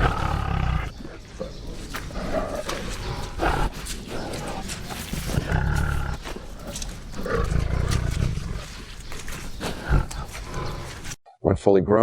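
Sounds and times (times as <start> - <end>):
tiger roaring: 0.0 - 8.8, 9.6 - 11.2.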